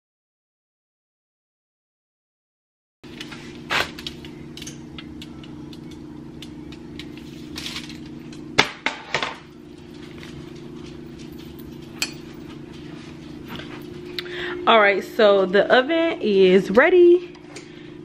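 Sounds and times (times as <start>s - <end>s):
steady low hum: 3.1s - 18.0s.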